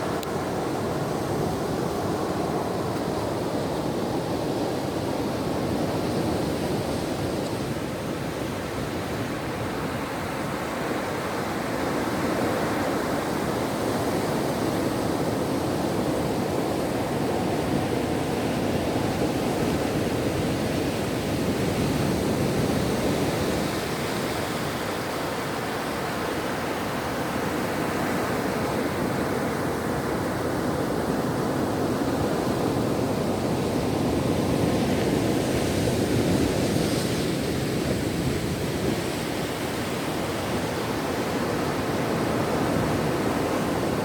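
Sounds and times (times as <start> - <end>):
ocean surf breaking on beach: 0.0 - 44.0.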